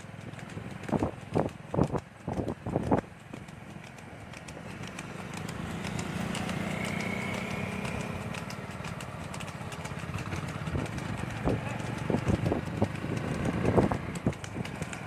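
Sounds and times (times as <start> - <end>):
cart rattling: 0.0 - 15.0
hooves on asphalt: 0.0 - 15.0
motorcycle engine running: 0.0 - 15.0.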